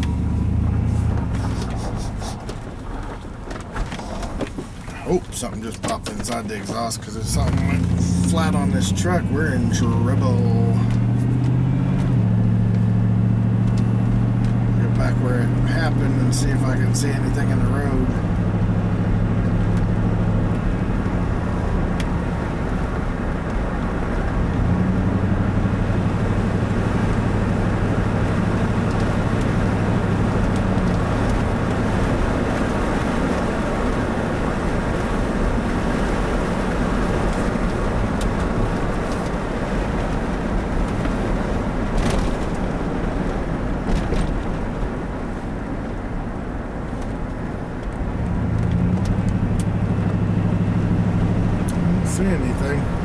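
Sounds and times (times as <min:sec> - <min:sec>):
car engine drone: 0:00.0 - 0:53.0
tyre and road noise: 0:00.0 - 0:53.0.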